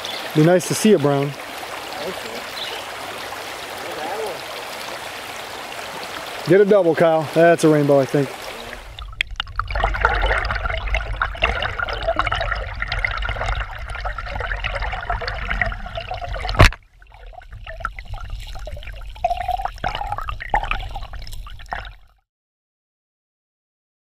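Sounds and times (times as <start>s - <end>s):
muffled water rushing over gravel: 0.0s - 22.0s.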